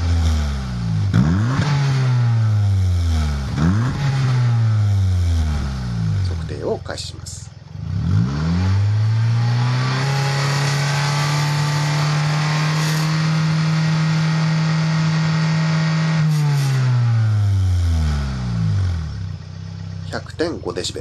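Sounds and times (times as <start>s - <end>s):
loud car engine revving: 0.0s - 21.0s.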